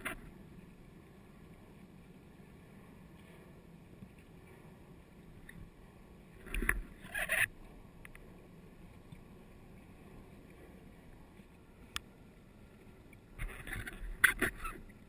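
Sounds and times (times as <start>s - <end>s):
low underwater hum: 0.0s - 15.0s.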